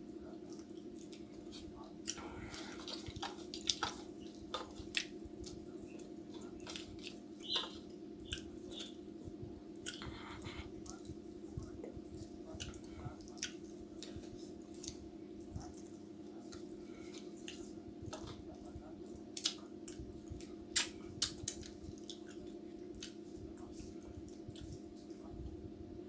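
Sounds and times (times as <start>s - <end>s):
person chewing with mouth smacks: 0.3s - 25.3s.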